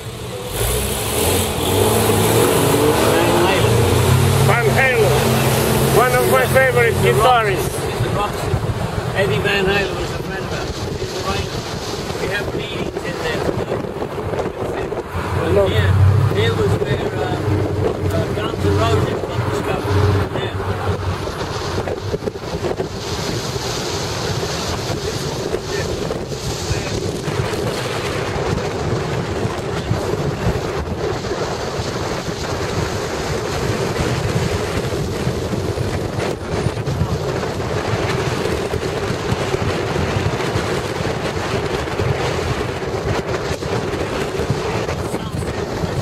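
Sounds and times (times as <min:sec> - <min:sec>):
road noise inside car: 0:00.0 - 0:46.0
wind buffeting microphone: 0:00.0 - 0:46.0.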